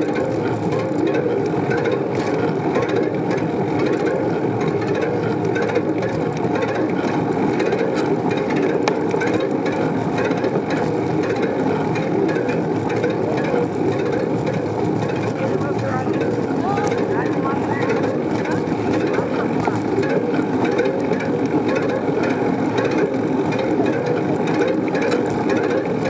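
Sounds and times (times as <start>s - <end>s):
bicycle tyre and road noise: 0.0s - 26.0s.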